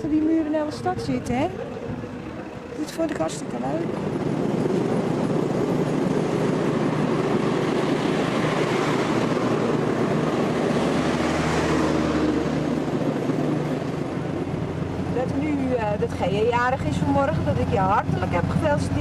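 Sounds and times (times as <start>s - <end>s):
vehicle droning hum: 0.0s - 19.0s.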